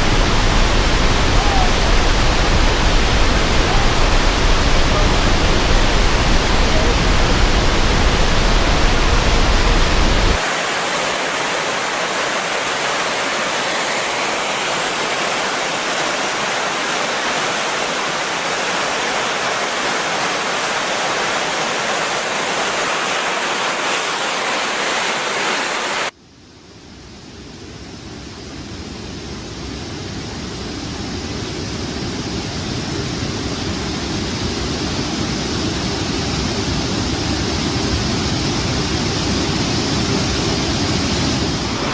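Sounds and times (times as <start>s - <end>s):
water rushing through dam: 0.0s - 26.2s, 29.4s - 41.9s.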